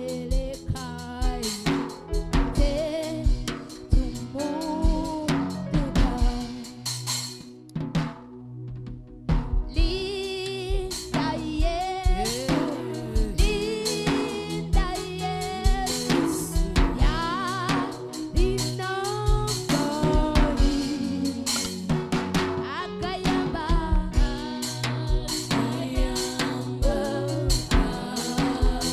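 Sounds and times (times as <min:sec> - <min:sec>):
live band with drum kit: 0:00.0 - 0:08.3, 0:09.3 - 0:28.9
person singing: 0:02.6 - 0:07.1, 0:09.8 - 0:28.9.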